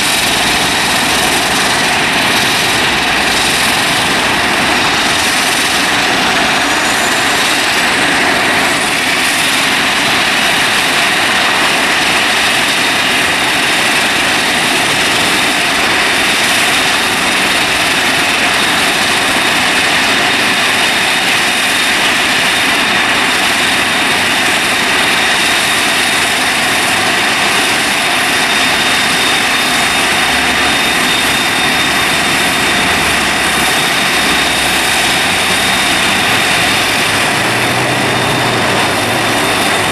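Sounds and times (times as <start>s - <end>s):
high-pitched engine whine: 0.0s - 39.9s
jet engines rushing: 0.0s - 39.9s.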